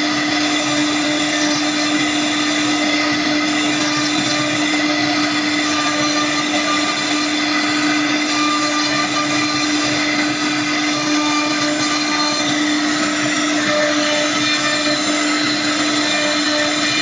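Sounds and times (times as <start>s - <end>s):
wood router whining: 0.0s - 17.0s.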